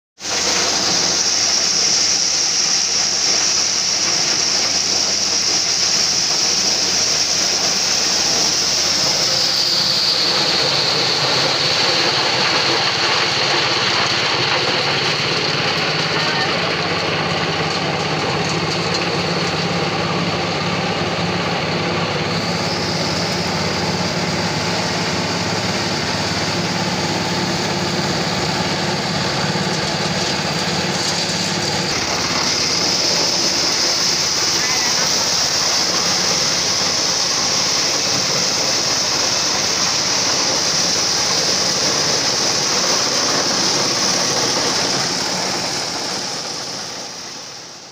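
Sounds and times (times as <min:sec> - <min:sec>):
threshing drum clatter: 0:00.2 - 0:47.0
engine drone: 0:00.2 - 0:47.9
high whine: 0:00.2 - 0:47.9.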